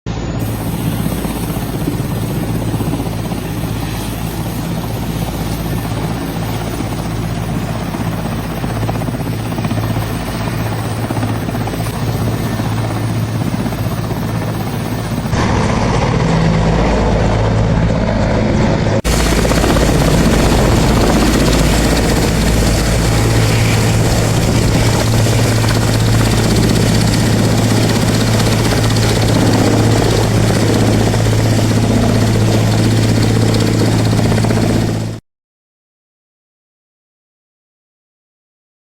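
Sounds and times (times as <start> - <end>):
helicopter rotor hum: 0.1 - 35.2.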